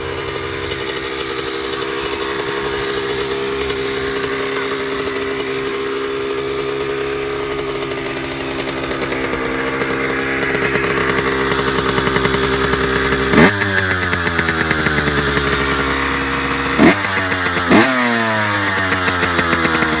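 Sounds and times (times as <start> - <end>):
small engine running and revving: 0.0 - 20.0.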